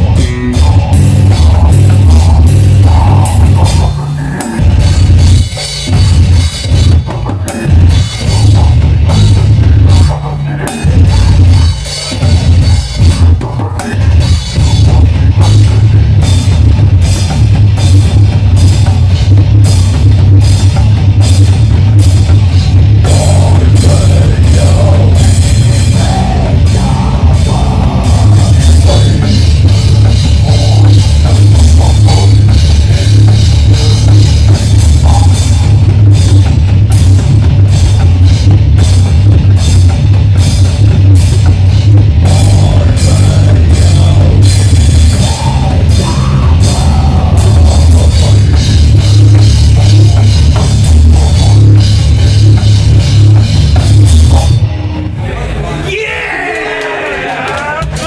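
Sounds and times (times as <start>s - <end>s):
drum and cymbal hits: 0.0s - 55.2s
death metal band playing: 0.0s - 58.0s.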